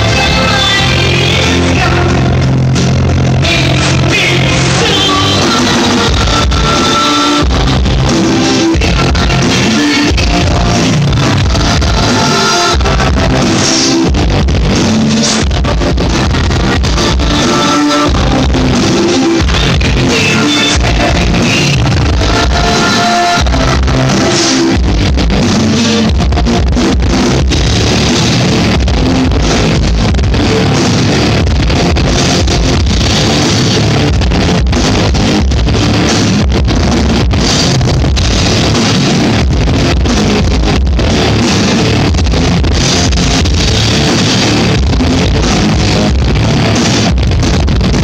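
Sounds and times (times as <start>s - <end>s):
live rock band: 0.0s - 48.0s.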